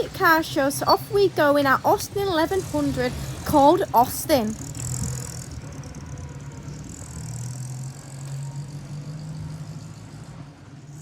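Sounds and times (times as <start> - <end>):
car engine running: 0.0 - 11.0
tyre and road noise: 0.0 - 11.0.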